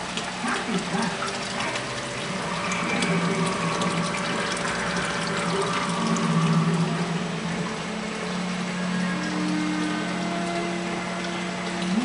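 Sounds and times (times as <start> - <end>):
aquarium pump humming: 0.0 - 12.0
water rushing: 0.0 - 12.0.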